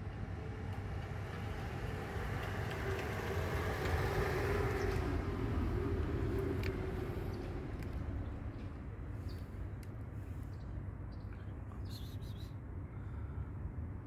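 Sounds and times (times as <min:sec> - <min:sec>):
road vehicle passing: 0:00.0 - 0:12.9.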